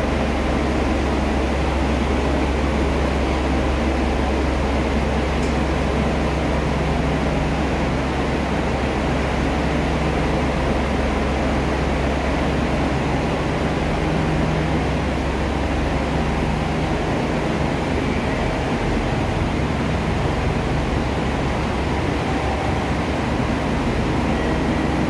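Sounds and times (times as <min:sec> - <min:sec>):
diesel railcar idling: 0:00.0 - 0:25.0.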